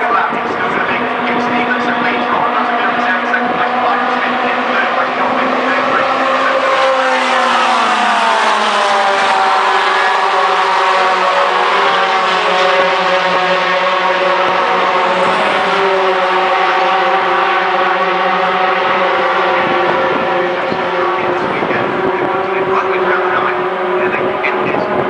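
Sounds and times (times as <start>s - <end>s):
racing truck engines: 0.0s - 25.0s.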